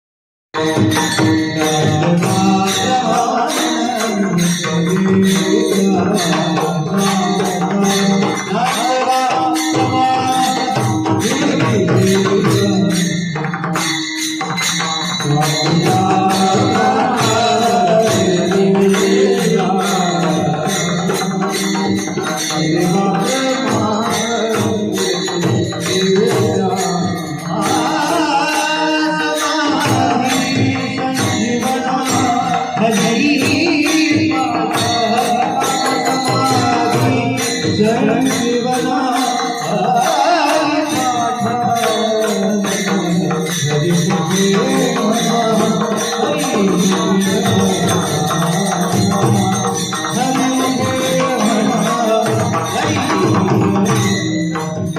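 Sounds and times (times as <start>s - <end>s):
rhythmic hand percussion: 0.5s - 54.9s.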